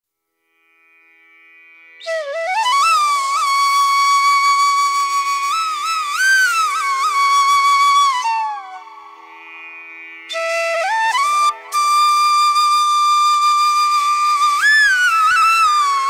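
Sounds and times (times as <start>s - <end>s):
flute-like melody: 2.0s - 9.6s, 10.3s - 16.0s.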